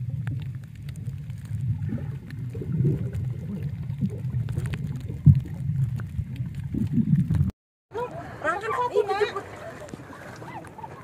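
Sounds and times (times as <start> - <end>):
underwater water wash: 0.0 - 11.0.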